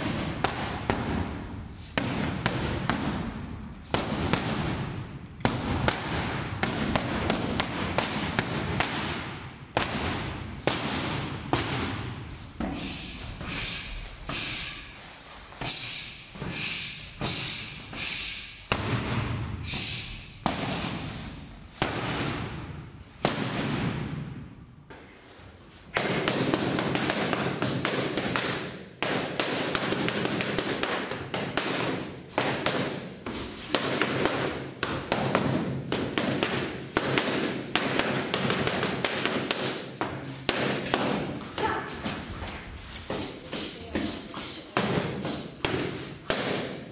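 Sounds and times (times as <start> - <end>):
boxing gloves punching mitts: 0.0 - 13.6, 18.7 - 19.7, 20.4 - 25.0, 25.7 - 46.9.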